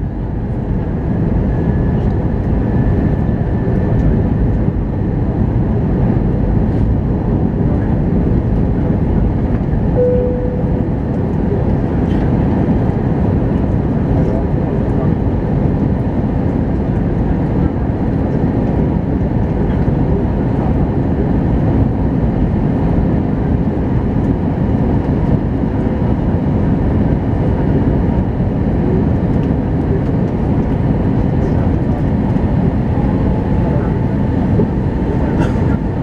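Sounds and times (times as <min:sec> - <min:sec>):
airliner cabin rumble: 0:00.0 - 0:36.0.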